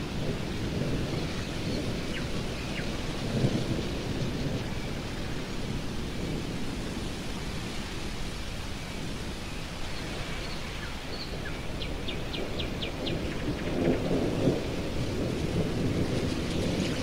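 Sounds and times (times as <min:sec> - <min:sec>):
distant thunder rumble: 0:00.0 - 0:17.0
stormy wind: 0:00.0 - 0:17.0.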